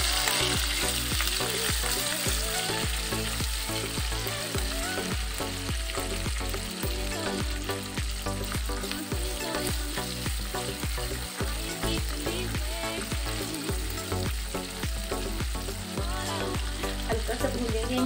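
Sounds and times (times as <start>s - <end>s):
chillies sizzling in oil: 0.0s - 18.0s.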